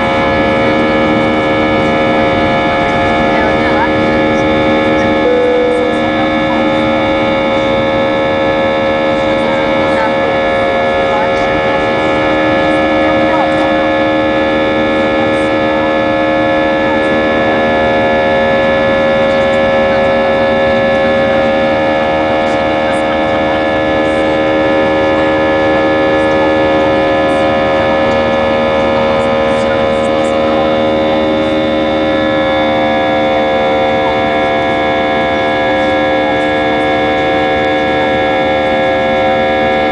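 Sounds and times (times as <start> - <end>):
jet engines whining and roaring: 0.0 - 39.9.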